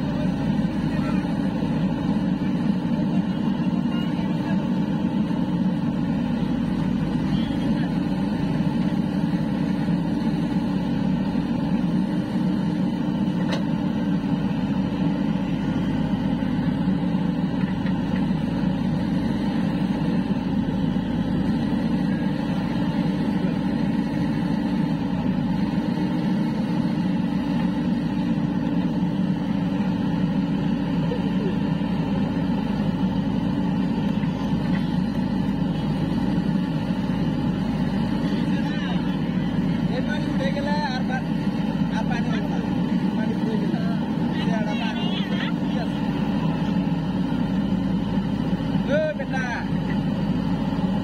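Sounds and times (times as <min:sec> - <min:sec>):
backhoe diesel engine under load: 0:00.0 - 0:51.0.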